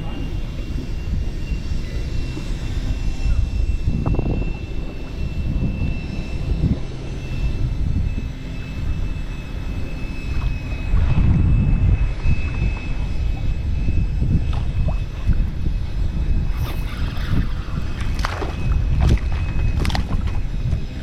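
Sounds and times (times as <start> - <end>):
thin steady high tone: 0.0 - 21.0
wind buffeting microphone: 0.0 - 21.0.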